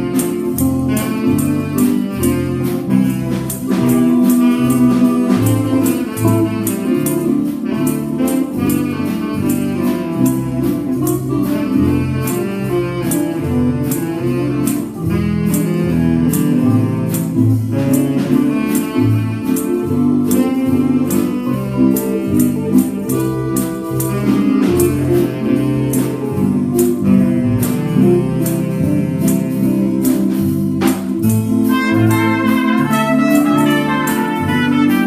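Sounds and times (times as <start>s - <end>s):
electric guitar: 0.0s - 35.0s
low walking bass notes: 0.0s - 35.0s
saxophones playing melody: 0.0s - 35.0s
tambourine beat: 0.0s - 35.0s.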